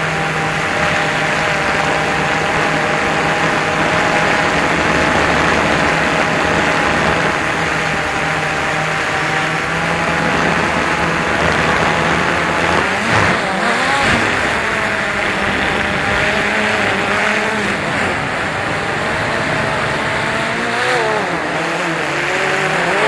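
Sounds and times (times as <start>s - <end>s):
wind noise: 0.0s - 21.2s
drone propellers whining: 0.0s - 23.0s.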